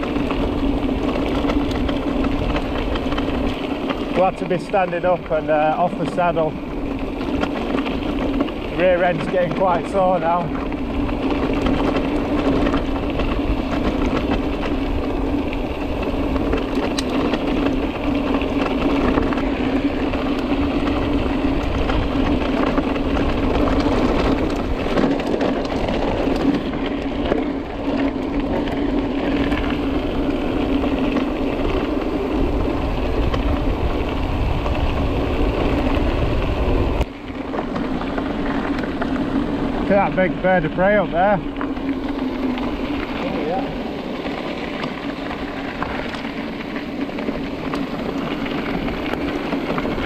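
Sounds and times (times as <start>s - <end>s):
bike tyre rumble: 0.0s - 50.0s
wind noise on microphone: 0.0s - 50.0s.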